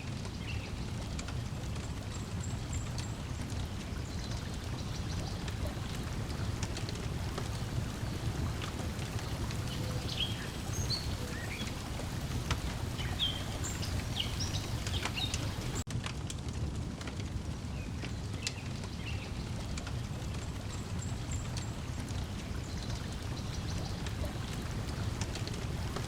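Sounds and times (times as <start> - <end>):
small birds chirping: 0.0 - 15.8, 17.8 - 26.0
water lapping: 0.0 - 15.9, 18.9 - 26.0
wood fire crackling: 0.1 - 26.0.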